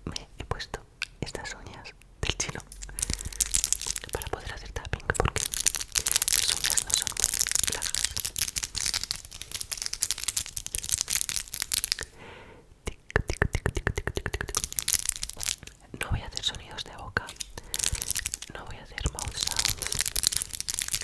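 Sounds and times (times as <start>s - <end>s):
crackly fingertip scratching: 0.2s - 12.2s, 12.9s - 21.0s.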